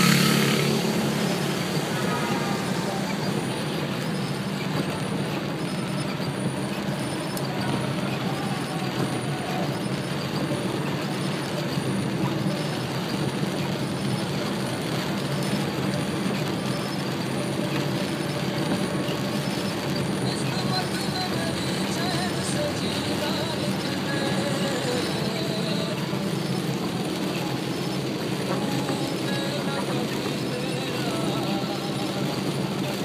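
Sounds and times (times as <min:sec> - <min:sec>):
engine and tyre rumble: 0:00.0 - 0:33.0
rain and spray hiss: 0:00.0 - 0:33.0.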